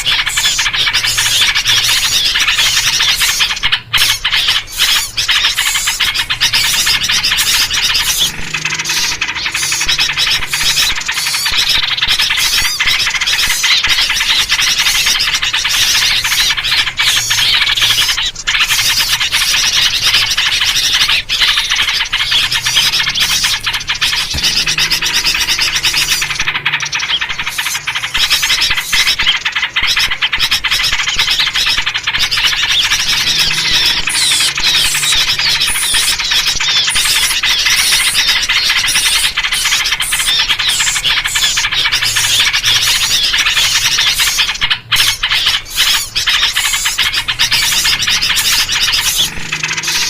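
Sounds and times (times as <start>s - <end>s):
chorus of birds chattering: 0.0s - 50.0s.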